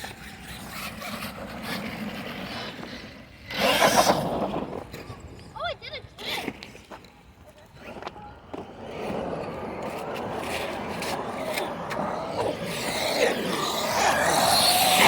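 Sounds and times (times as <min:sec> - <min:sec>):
rc truck motor and tyres: 0:00.0 - 0:05.4, 0:06.2 - 0:15.0.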